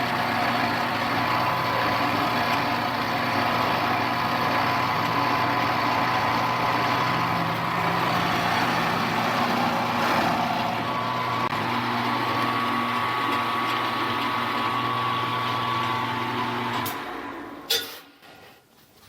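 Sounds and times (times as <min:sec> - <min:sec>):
milling machine running: 0:00.0 - 0:17.7.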